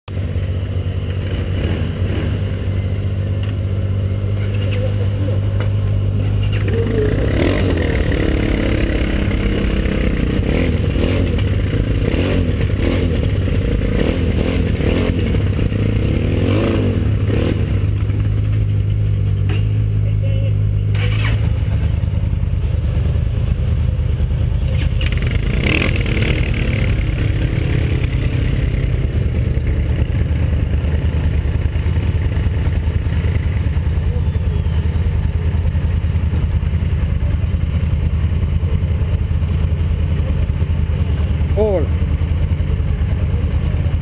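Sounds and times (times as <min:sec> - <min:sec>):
motorcycle engine running: 0:00.1 - 0:44.0.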